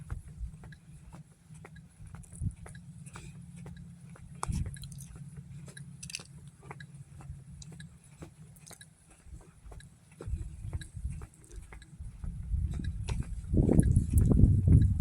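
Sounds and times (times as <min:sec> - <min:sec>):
wind rumble on microphone: 0:00.0 - 0:01.2, 0:02.0 - 0:15.0.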